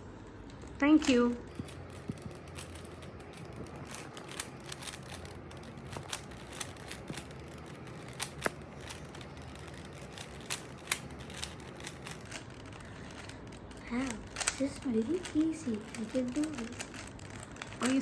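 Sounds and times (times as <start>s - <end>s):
puzzle cube plastic clicks: 0.4s - 18.0s.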